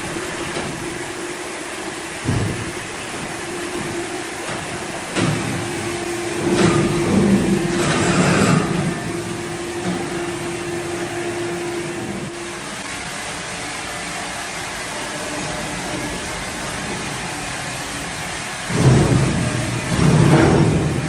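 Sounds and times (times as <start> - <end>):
sawmill machinery running: 0.0 - 21.0
steady hum: 0.0 - 21.0.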